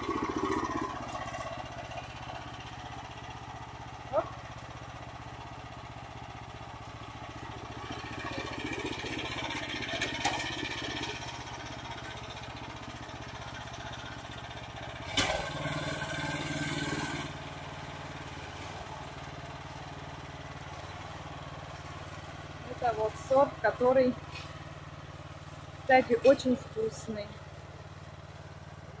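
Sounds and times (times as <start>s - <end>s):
small tractor engine running: 0.0s - 29.0s.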